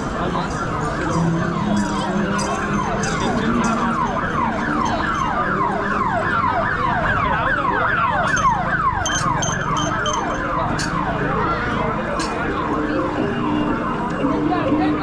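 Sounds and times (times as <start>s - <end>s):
siren-like wail sweeping downward: 0.5s - 14.4s.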